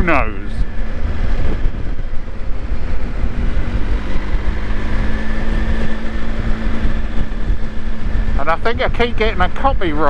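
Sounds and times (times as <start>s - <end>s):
road noise: 0.0s - 10.0s
wind rumbling on microphone: 0.0s - 10.0s.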